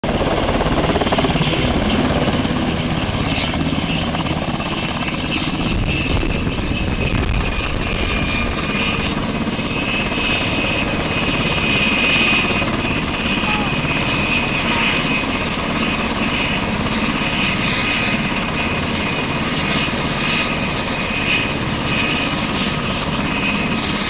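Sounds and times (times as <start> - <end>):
helicopter rotor blade chop: 0.0 - 24.0
high turbine whine: 0.1 - 24.0.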